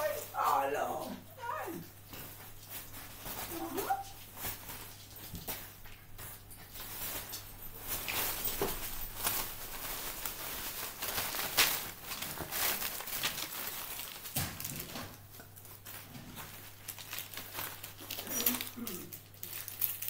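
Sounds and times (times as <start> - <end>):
wrapping paper crinkling and tearing: 0.0 - 20.0.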